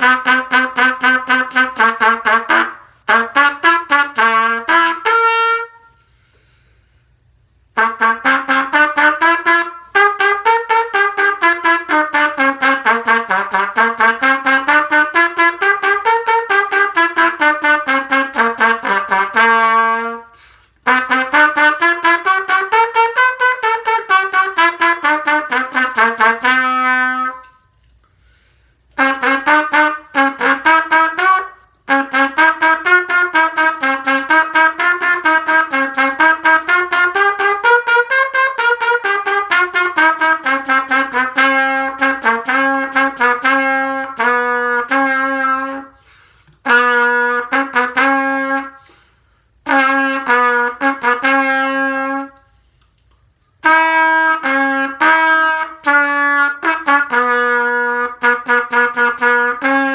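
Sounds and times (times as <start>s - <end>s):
trumpet playing scale runs: 0.0s - 6.1s, 7.6s - 28.0s, 28.8s - 52.6s, 53.6s - 59.9s.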